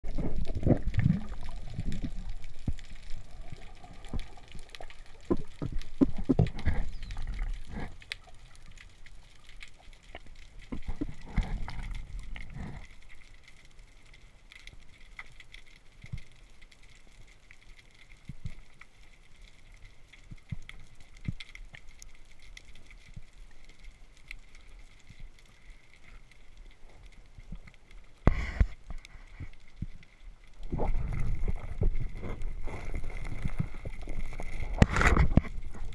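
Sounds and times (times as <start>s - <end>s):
muffled underwater rumble: 0.0s - 14.1s, 15.8s - 35.9s
faint underwater clicks: 0.0s - 35.9s.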